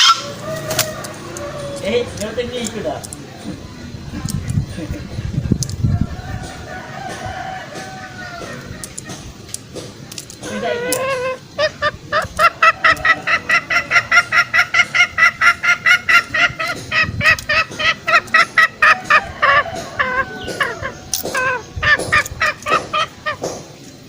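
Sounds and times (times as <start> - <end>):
junglefowl clucking calls: 0.0 - 3.6, 5.6 - 24.0.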